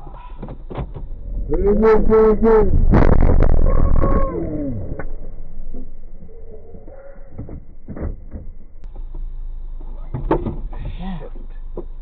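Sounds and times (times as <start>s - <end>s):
car running rumble: 0.0s - 12.0s.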